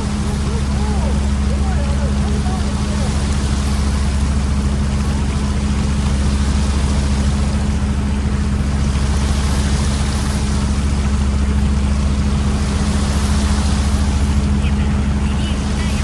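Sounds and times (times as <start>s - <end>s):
boat engine humming: 0.0s - 16.0s
water wash: 0.0s - 16.0s.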